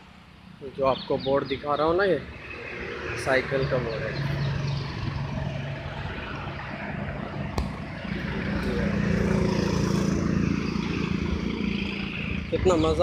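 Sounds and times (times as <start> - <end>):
vehicle engine passing: 1.2 - 13.0.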